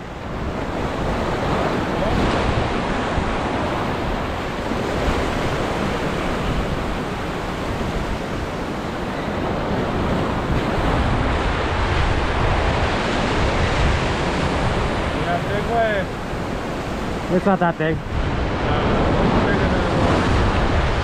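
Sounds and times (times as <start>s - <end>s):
ocean surf over rocks: 0.0s - 21.0s
wind buffeting microphone: 0.0s - 21.0s.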